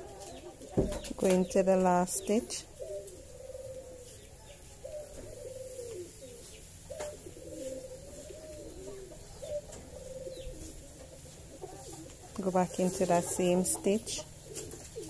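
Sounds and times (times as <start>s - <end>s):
bird cooing: 2.4s - 15.0s.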